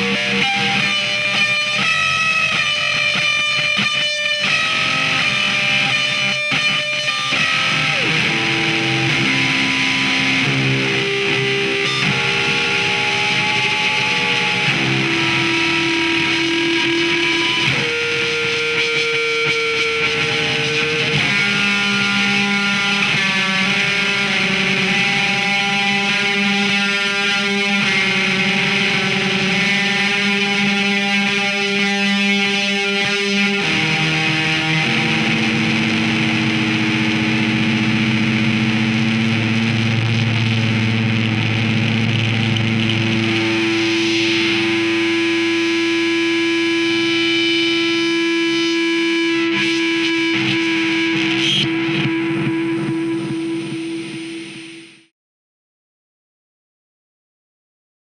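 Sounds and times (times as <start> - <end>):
distorted electric guitar chords: 0.0 - 55.1.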